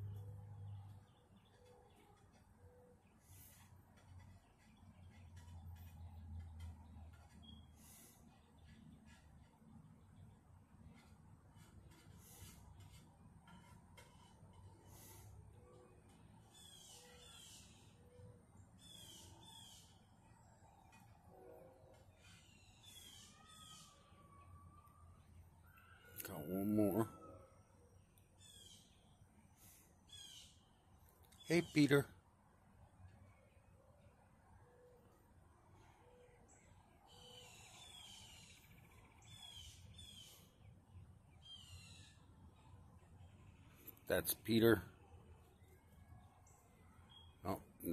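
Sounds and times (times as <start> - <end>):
faint cardinal song: 0.0 - 47.9.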